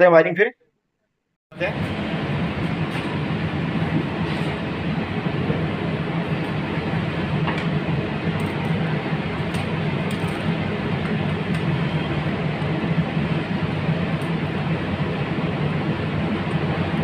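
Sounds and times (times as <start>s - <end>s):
machinery rumble and hum: 1.5s - 17.0s.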